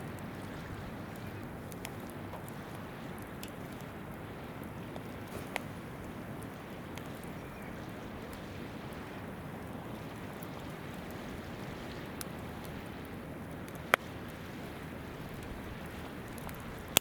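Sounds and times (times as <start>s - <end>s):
campfire crackles: 0.0s - 17.0s
river babbling: 0.0s - 17.0s.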